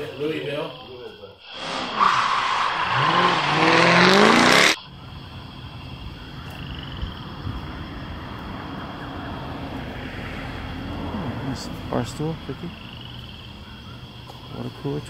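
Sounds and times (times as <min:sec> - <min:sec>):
vehicle engine accelerating: 0:01.5 - 0:14.3.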